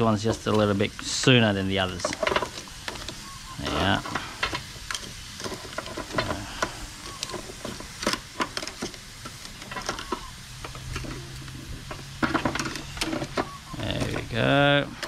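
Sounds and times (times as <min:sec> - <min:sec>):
crabs sizzling on grill: 0:00.0 - 0:15.0.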